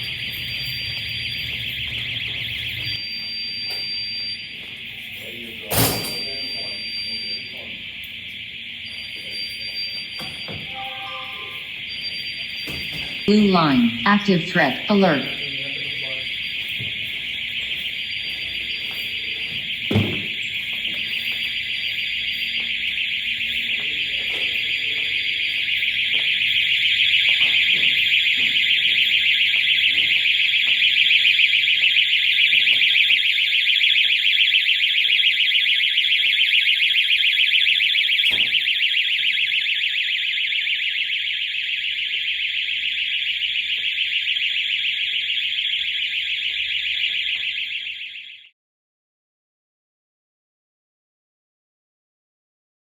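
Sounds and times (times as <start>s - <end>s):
high electronic alarm tone: 0.0s - 48.5s.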